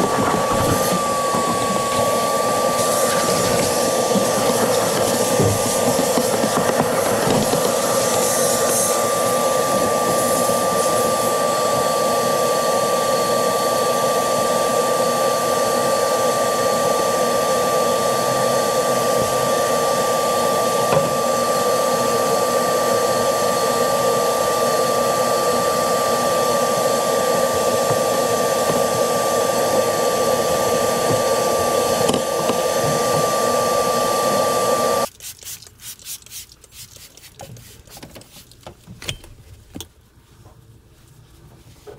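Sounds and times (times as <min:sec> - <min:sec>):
vacuum motor whining: 0:00.0 - 0:35.1.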